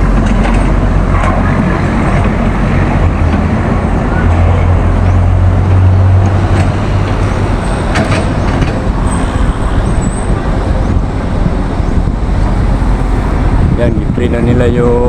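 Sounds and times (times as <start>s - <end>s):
low hum: 0.0s - 14.6s
traffic engine rumble: 0.0s - 15.0s.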